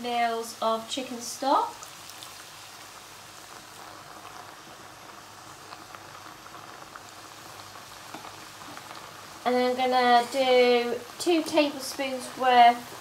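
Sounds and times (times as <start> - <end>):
sauce sizzling in frying pan: 0.0 - 13.0.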